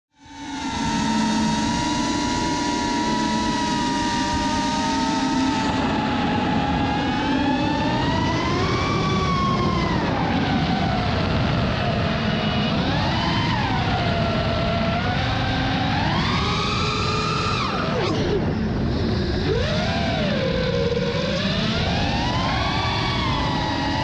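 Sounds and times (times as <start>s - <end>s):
quadcopter motors whining: 0.2s - 24.0s.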